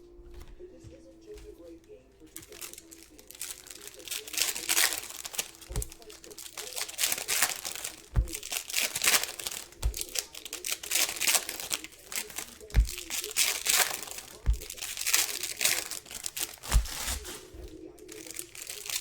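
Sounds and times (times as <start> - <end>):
dull thumps: 0.0 - 19.0
plastic wrapping rustling: 0.0 - 19.0.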